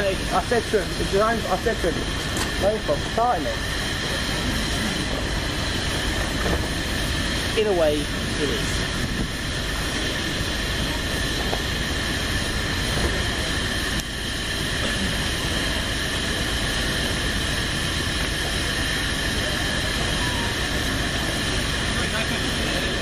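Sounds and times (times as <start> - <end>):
machine high whine: 0.0 - 23.0
machine low rumble: 0.0 - 23.0.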